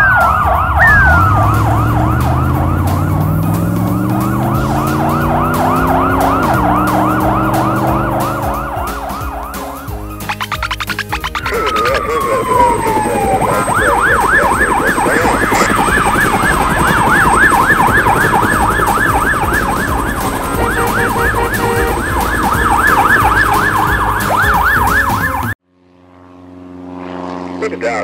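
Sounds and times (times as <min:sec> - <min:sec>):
cartoon siren yelping: 0:00.0 - 0:25.6
low engine drone: 0:00.0 - 0:27.8.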